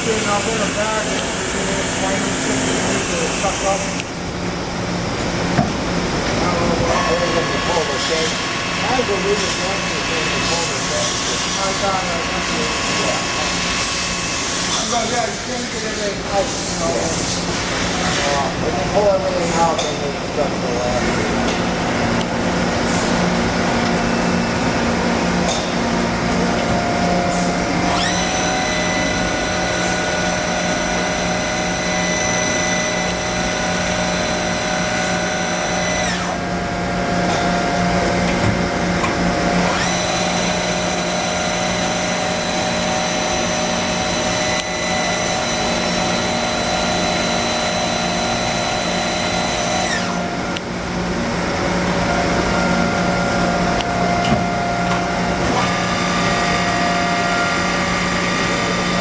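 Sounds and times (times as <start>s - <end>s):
high motor whine: 0.0s - 59.0s
low machine hum: 0.0s - 59.0s.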